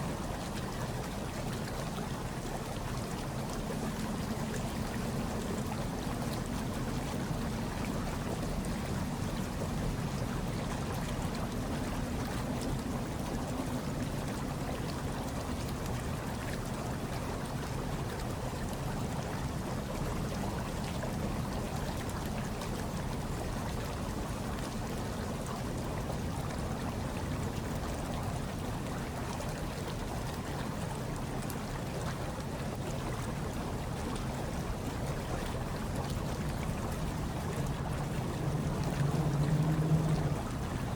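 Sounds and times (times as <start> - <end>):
hot tub water bubbling: 0.0 - 40.9.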